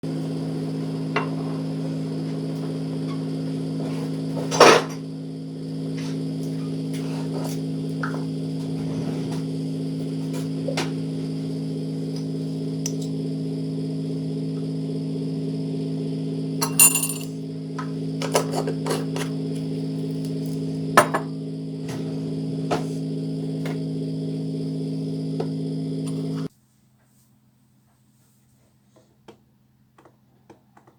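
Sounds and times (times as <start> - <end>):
steady low hum: 0.0 - 26.5.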